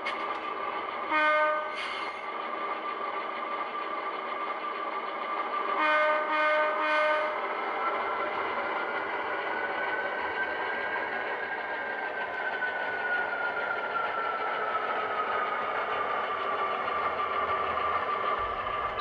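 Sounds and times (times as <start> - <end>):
model locomotive diesel engine sound: 0.0 - 19.0.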